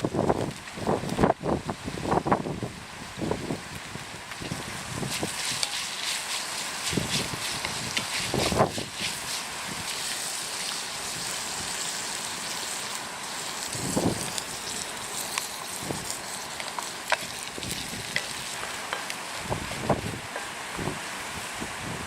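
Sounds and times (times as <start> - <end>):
wood fire crackles: 0.0 - 22.0
food sizzling in a pan: 3.8 - 21.6.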